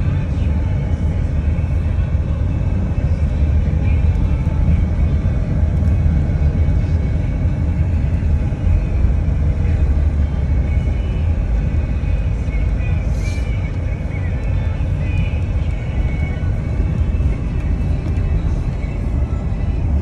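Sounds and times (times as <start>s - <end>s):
vehicle rumble inside cabin: 0.0s - 20.0s.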